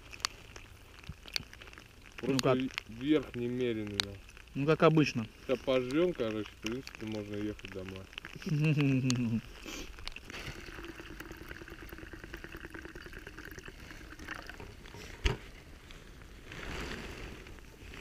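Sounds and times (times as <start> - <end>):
liquid pouring gurgling: 0.0 - 15.4.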